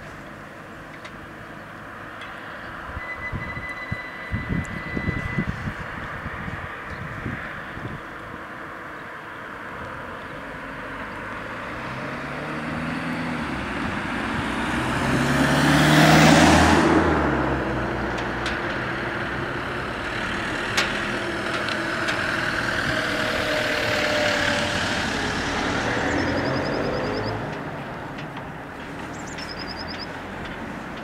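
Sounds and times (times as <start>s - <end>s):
car engine and tyre noise: 0.0s - 31.0s
motorhome engine and tyre noise: 0.0s - 31.0s.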